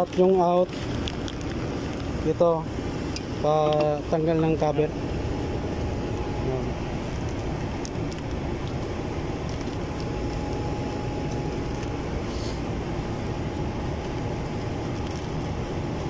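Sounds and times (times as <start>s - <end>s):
plastic bag crinkling: 0.0s - 2.5s, 3.5s - 16.0s
low background rumble: 0.0s - 16.0s.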